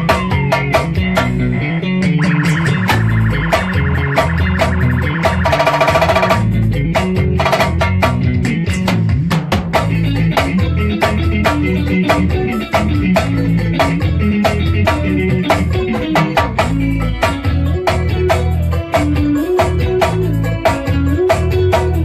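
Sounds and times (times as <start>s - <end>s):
bass and guitar: 0.0s - 22.0s
drum kit fast beat: 0.0s - 22.0s.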